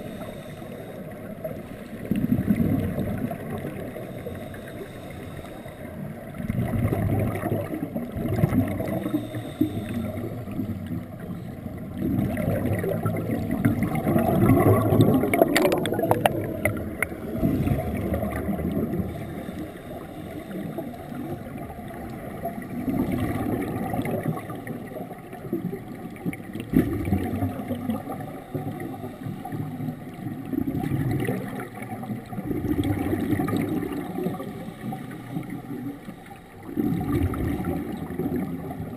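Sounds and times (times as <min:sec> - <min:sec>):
underwater diver bubbles rumbling: 0:00.0 - 0:38.9.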